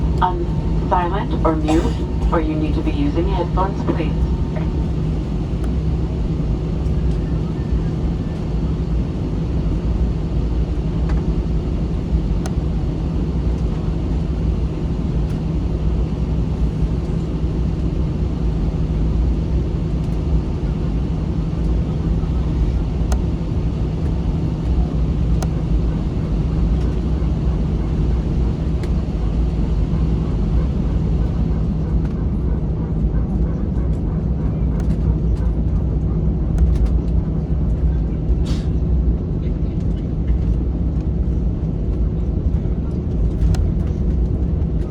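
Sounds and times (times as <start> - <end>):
aircraft cabin engine drone: 0.0 - 44.9
constant hum: 0.0 - 44.9.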